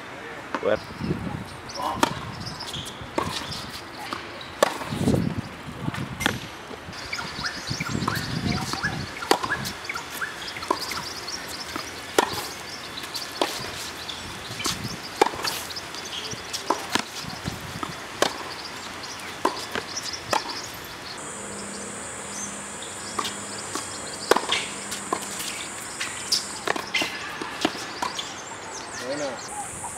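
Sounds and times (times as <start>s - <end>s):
racket strokes and ball bounces: 1.9s - 5.2s, 5.9s - 6.5s, 7.1s - 29.0s.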